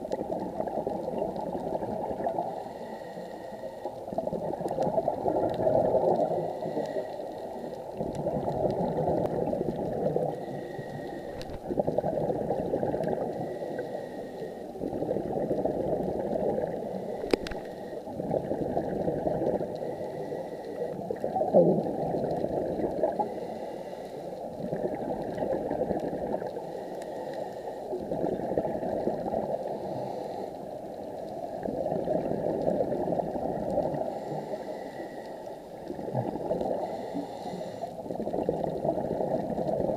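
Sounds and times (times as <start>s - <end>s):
underwater bubbling: 0.0s - 39.9s.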